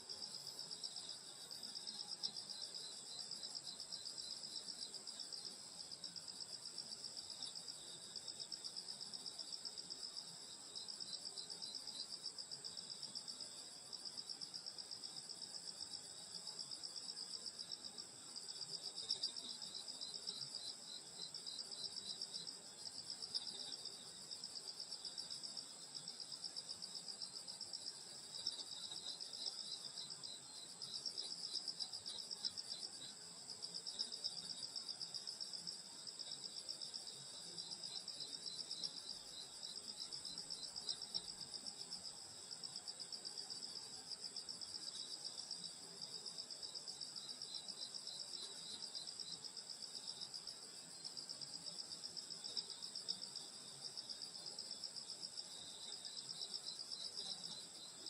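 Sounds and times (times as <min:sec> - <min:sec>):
low pulsed insect chirping: 0:00.1 - 0:58.0.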